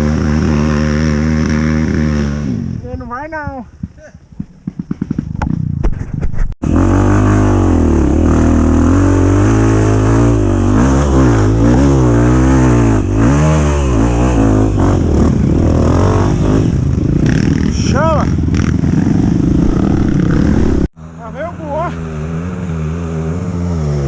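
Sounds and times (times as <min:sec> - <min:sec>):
dirt bike engine revving: 0:00.0 - 0:03.2, 0:06.6 - 0:24.0.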